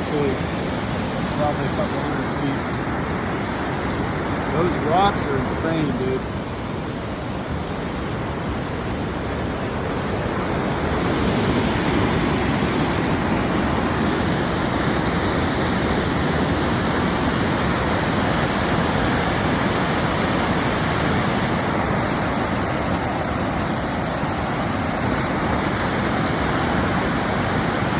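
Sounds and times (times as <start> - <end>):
waterfall roaring onto rocks: 0.0 - 27.9.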